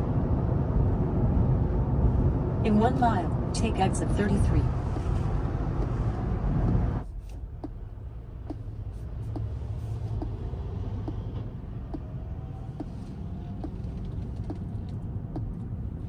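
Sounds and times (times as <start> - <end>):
road and tyre rumble: 0.0 - 16.0.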